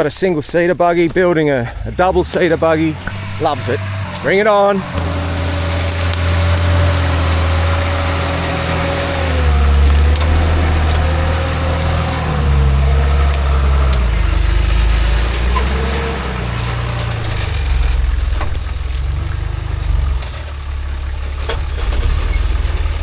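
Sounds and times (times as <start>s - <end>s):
truck engine running at low revs: 0.9s - 23.0s
thin whine: 2.3s - 21.0s.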